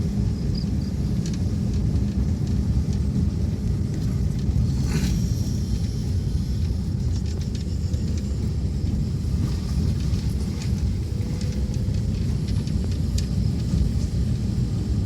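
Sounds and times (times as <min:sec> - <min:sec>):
vehicle rumbling along road: 0:00.0 - 0:15.0.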